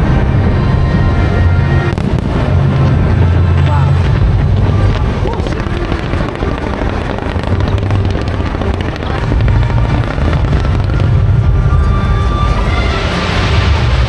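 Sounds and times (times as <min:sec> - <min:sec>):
fireworks crackling and bursting: 0:01.7 - 0:14.0.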